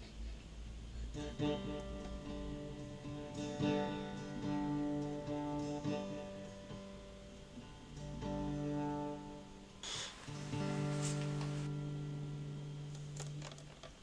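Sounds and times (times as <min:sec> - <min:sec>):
acoustic guitar strumming: 0:01.2 - 0:13.1.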